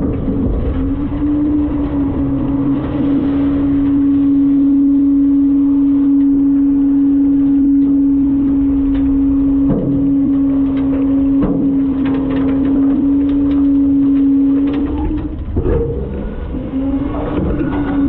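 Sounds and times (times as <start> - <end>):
garbage truck engine and hydraulics: 0.0 - 18.0.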